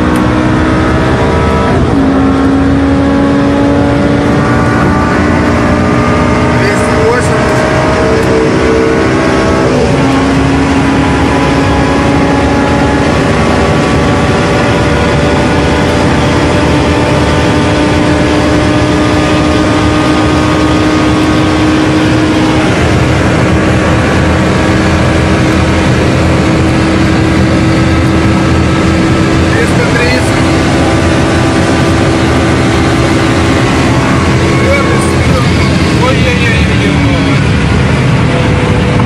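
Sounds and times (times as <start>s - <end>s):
car engine accelerating: 0.0s - 39.0s
wind and road noise: 0.0s - 39.0s.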